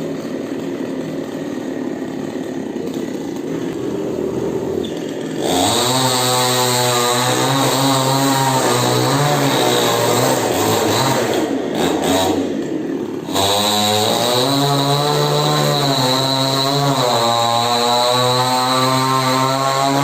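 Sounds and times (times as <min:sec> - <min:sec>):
chainsaw engine running high: 0:00.0 - 0:20.0.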